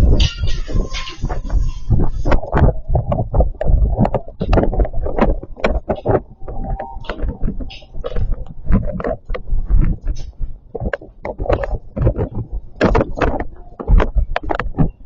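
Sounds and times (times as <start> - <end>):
gusty wind on microphone: 0.0 - 15.0
objects rattling in wind: 0.0 - 15.0.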